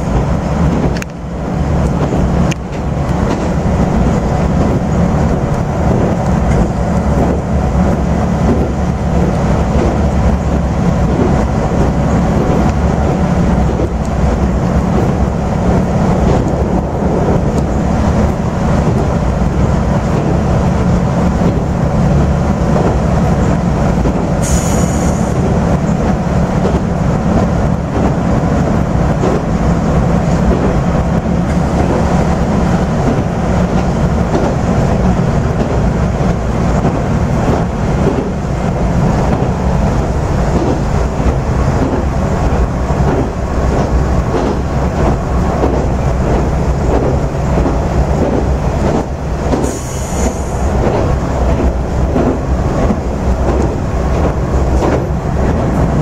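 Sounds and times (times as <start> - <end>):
train engine drone: 0.0 - 56.0
wheels on rails: 0.0 - 56.0.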